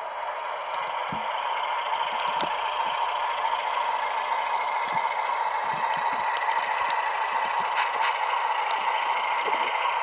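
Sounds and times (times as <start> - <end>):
diesel engine sound from small speaker: 0.0 - 10.0.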